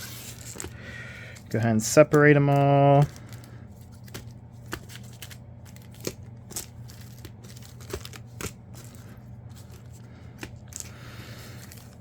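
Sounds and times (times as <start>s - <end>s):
foil packs crinkling: 0.0s - 12.0s
low steady hum: 0.0s - 12.0s.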